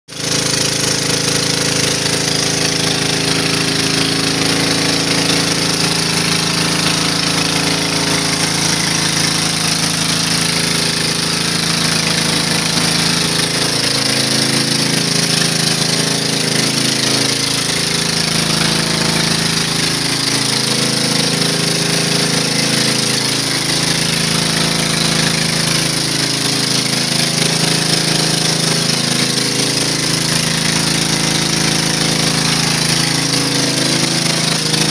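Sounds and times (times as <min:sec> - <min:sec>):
pressure washer motor drone: 0:00.1 - 0:34.9.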